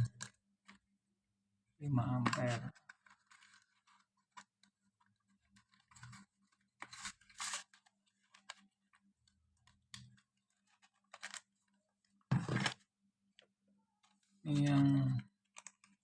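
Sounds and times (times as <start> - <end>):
clicks and rustles of handling: 2.0 - 16.0.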